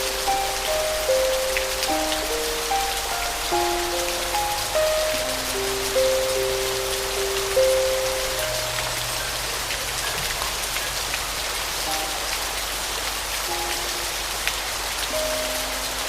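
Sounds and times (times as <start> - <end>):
raindrops ticking: 0.0 - 16.0
soft piano notes: 0.0 - 16.0
steady rain: 0.0 - 16.0.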